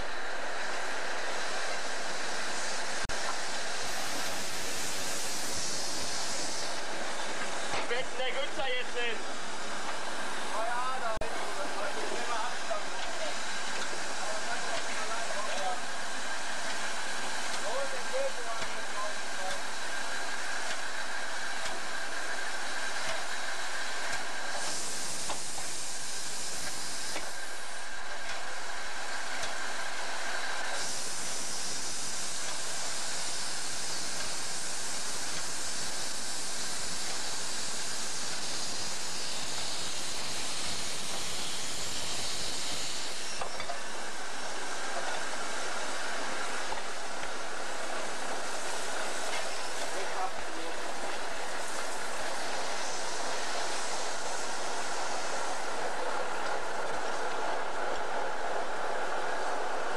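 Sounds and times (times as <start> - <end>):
loud steam blasts: 0.0 - 59.9
steam hissing from locomotive: 0.0 - 59.9.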